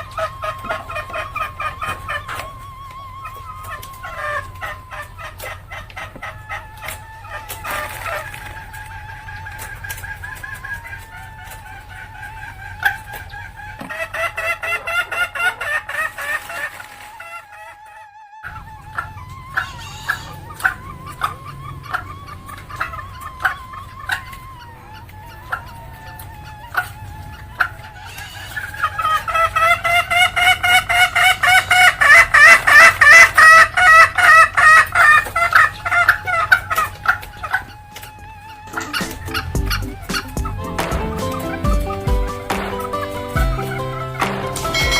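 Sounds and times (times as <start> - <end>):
hen cackling: 0.0 - 44.9.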